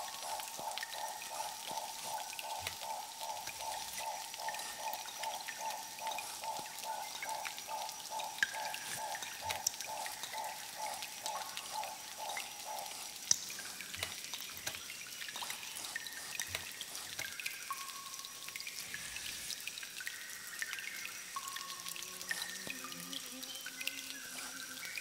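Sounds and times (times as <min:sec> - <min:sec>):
water dripping: 0:00.0 - 0:25.0.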